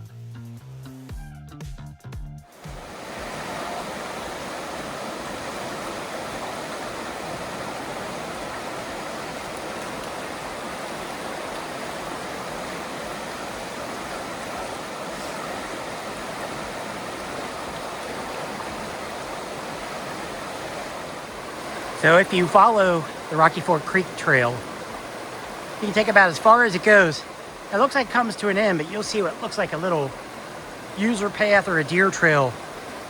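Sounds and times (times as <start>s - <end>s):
creek water rushing over rapids: 2.5s - 33.0s.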